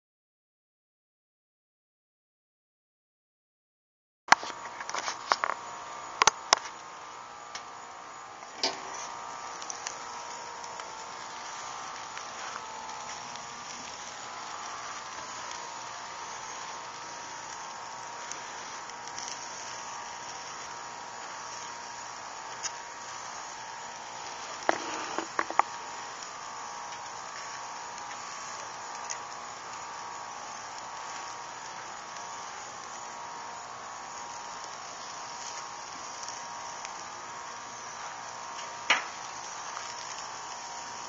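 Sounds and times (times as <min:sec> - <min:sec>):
steady background hiss: 0:04.4 - 0:41.0.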